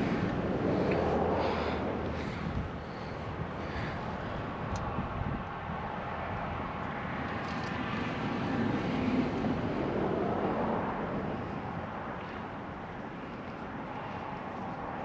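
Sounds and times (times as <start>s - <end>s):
wind noise: 0.0s - 12.6s.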